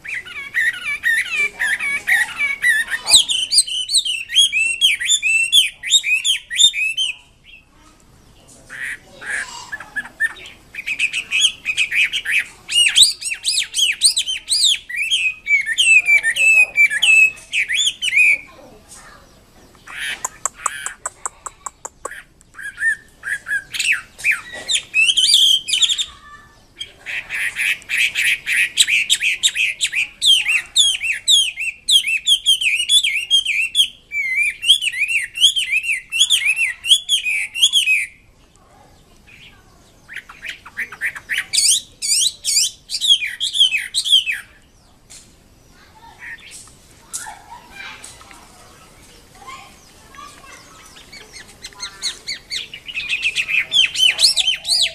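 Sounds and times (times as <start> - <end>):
bird singing whistled phrases and trills: 0.0 - 45.0, 45.6 - 54.9.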